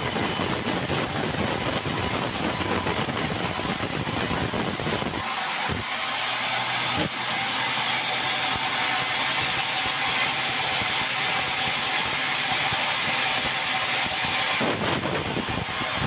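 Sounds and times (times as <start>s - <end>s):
band saw cutting timber: 0.0s - 16.0s.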